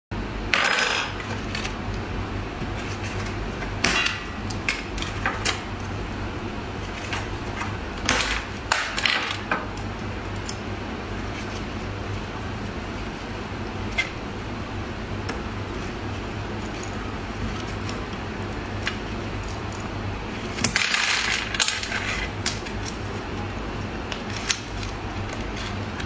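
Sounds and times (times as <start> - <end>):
steady low hum: 0.1 - 26.0.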